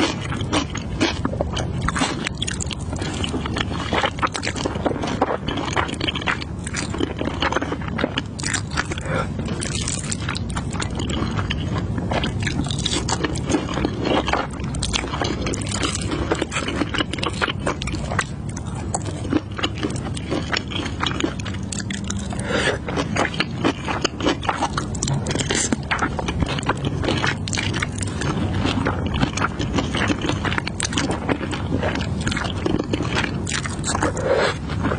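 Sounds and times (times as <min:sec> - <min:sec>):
wet chewing with mouth clicks: 0:00.0 - 0:34.9.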